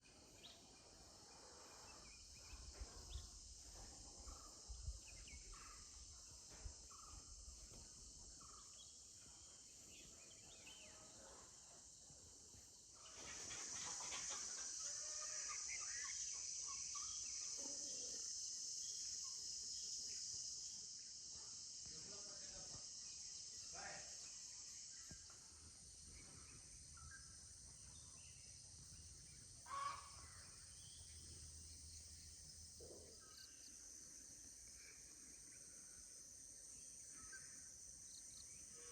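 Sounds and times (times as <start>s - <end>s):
crickets and insects trilling: 0.1s - 38.9s.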